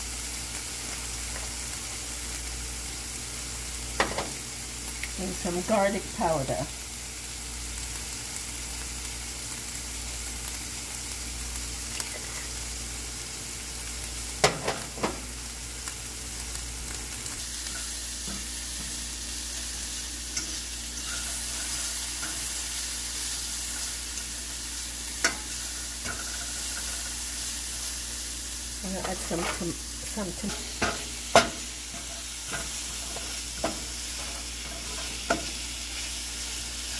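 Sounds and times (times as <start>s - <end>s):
vegetables sizzling in oil: 0.0s - 36.9s.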